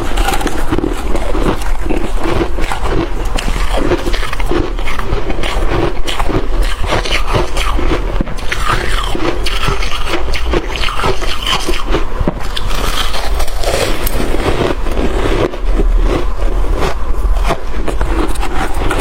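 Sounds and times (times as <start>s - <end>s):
chewing crunchy ice: 0.0s - 19.0s.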